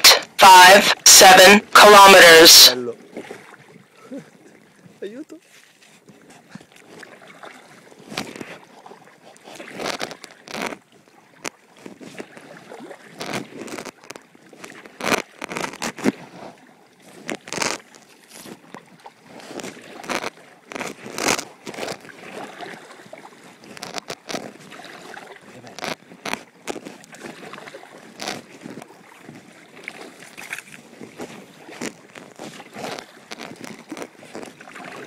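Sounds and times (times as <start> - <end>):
paddle splashing in water: 0.0 - 35.0
water sloshing against hull: 0.0 - 35.0.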